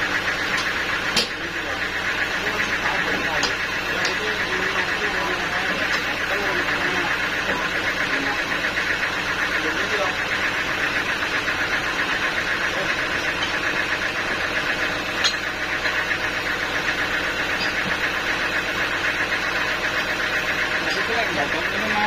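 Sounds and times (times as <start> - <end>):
sawmill machinery pulsing drone: 0.0 - 22.0.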